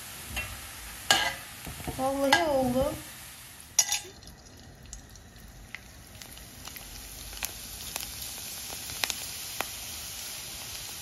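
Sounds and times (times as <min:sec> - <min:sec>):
snack pellets frying in oil: 0:00.0 - 0:11.0.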